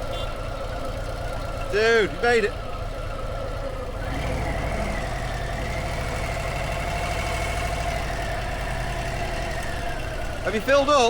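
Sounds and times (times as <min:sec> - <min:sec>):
engine whine: 0:00.0 - 0:11.0
motorcycle engine idling: 0:00.0 - 0:11.0.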